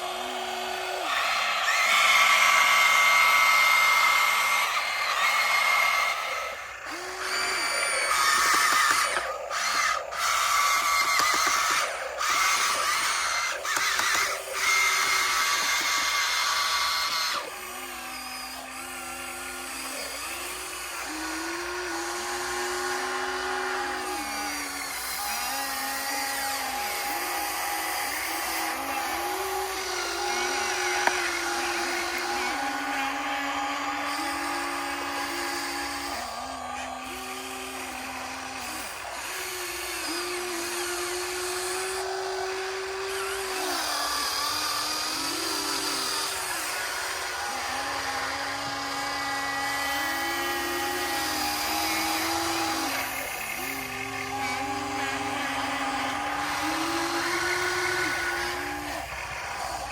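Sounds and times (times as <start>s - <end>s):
hydraulic pump motor whining: 0.0s - 59.9s.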